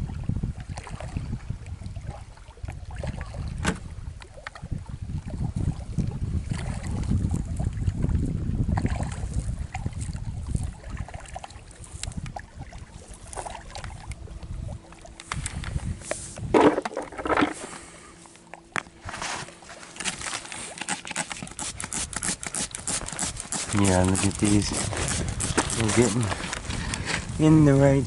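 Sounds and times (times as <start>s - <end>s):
wind rumbling on microphone: 0.0s - 18.1s, 21.5s - 28.0s.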